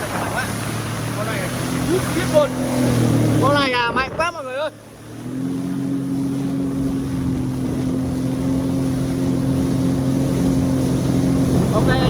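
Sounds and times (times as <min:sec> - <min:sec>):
jet ski engine running: 0:00.0 - 0:12.0
wind and water hiss: 0:00.0 - 0:12.0.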